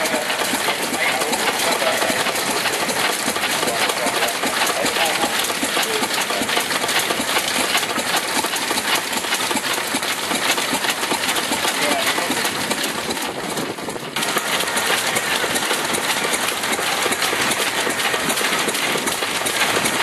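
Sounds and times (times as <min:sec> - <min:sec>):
diesel engine knocking: 0:00.0 - 0:20.0.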